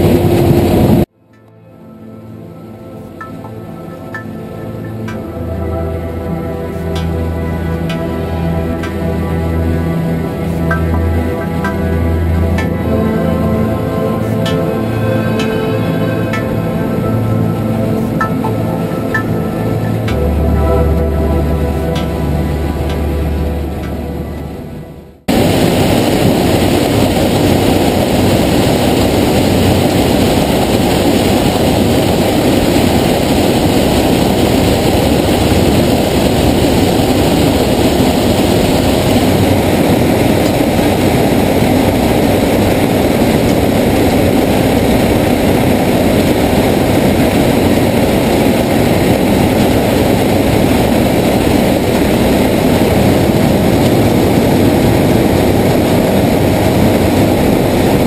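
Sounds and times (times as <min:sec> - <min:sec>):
harvester engine and machinery: 0:00.0 - 0:58.0.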